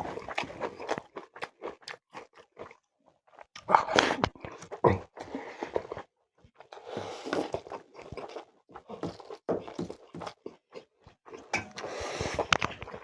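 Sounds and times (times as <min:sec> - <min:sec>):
person chewing and smacking: 0:00.0 - 0:13.0.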